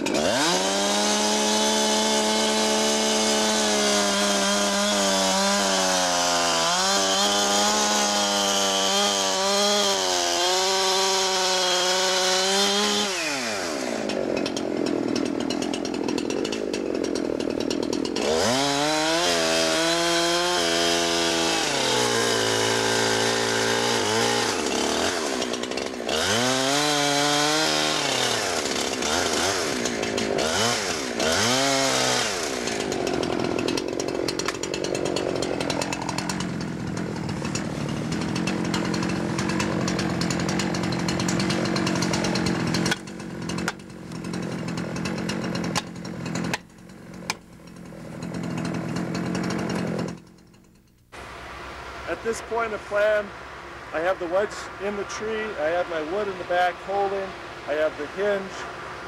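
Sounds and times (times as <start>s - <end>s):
chainsaw cutting tree trunk: 0.0s - 51.4s, 52.0s - 59.0s.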